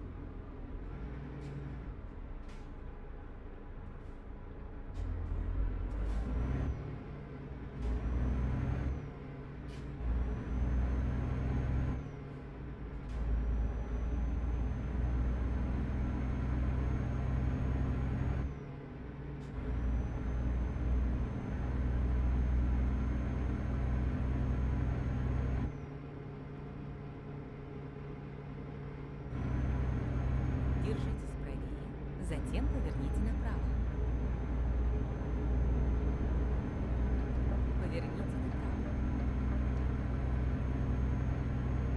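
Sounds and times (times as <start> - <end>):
truck diesel engine from cab: 0.0 - 41.9.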